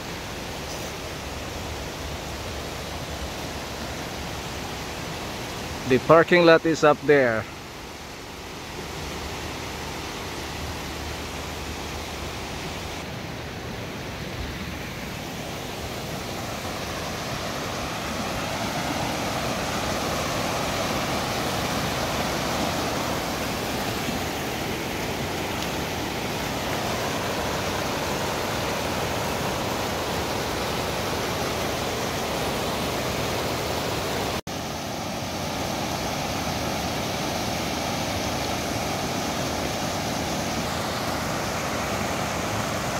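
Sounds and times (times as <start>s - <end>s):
creek water rushing over rocks: 0.0s - 42.9s.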